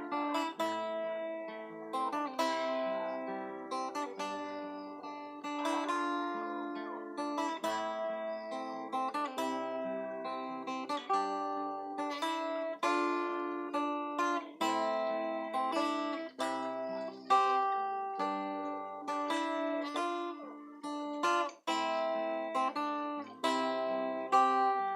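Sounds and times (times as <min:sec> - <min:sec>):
acoustic guitar: 0:00.0 - 0:24.9.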